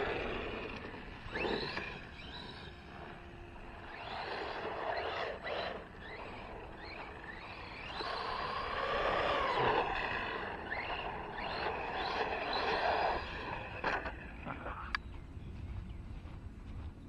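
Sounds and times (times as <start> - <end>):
electric motor whine: 0.0 - 15.1.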